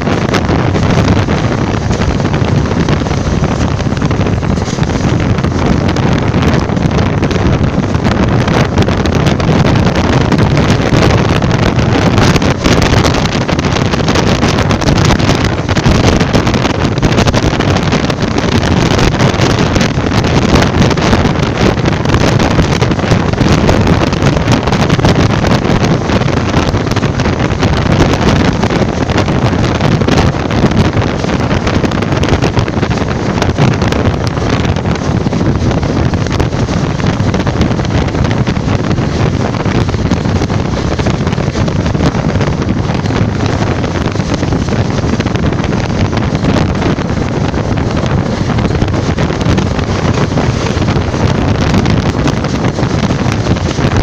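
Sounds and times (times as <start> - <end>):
train running on track: 0.0 - 54.0
wind buffeting microphone: 0.0 - 54.0.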